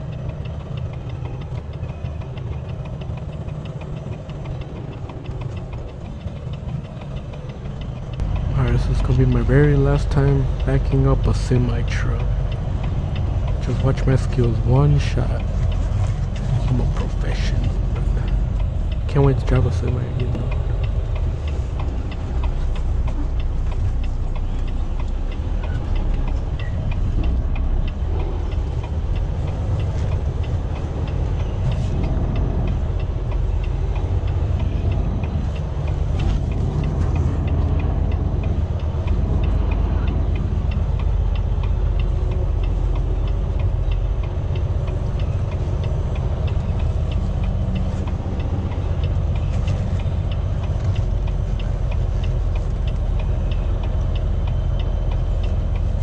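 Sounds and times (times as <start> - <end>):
diesel truck engine idling low: 0.0 - 56.0.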